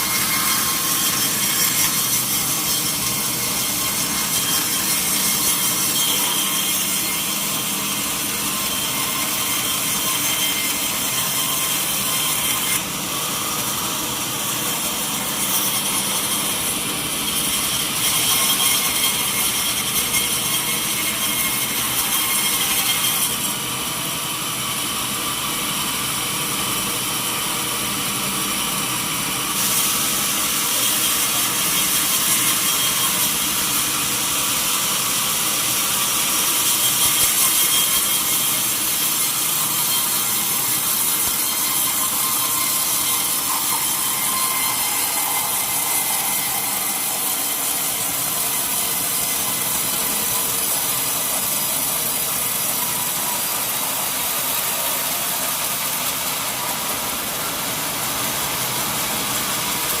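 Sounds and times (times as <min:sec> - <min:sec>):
saw cutting through log: 0:00.0 - 1:00.0.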